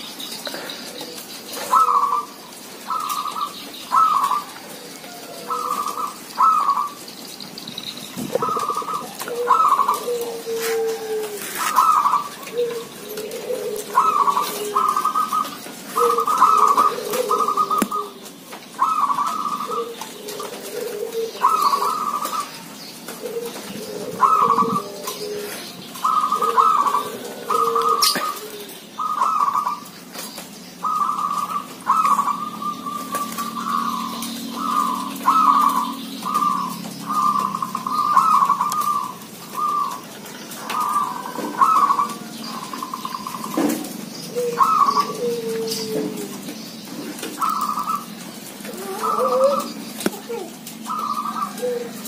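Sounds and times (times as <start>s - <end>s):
doves cooing: 0.0s - 52.0s.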